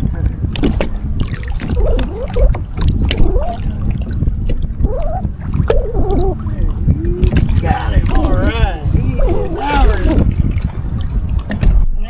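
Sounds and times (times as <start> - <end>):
water against kayak hull: 0.0 - 12.0
wind on microphone: 0.0 - 12.0
short pitched sounds: 0.6 - 11.1.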